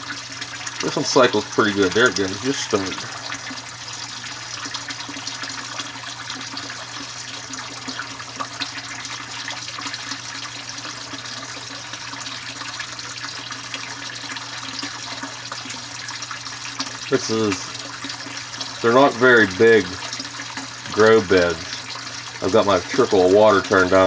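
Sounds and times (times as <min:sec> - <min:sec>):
water pouring and splashing: 0:00.0 - 0:24.0.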